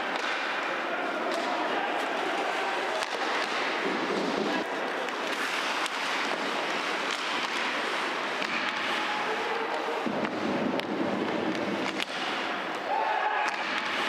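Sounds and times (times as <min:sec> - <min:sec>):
hockey sticks and puck clacking: 0:00.0 - 0:14.0
skates on ice: 0:00.0 - 0:14.0.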